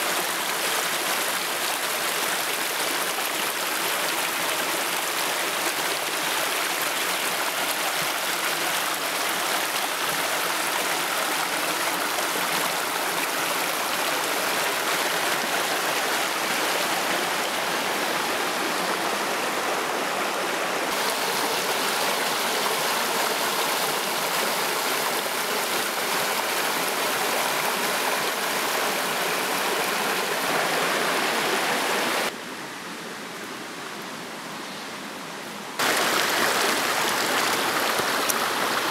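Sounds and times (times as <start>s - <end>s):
river rushing over rocks: 0.0s - 32.4s, 35.8s - 38.9s.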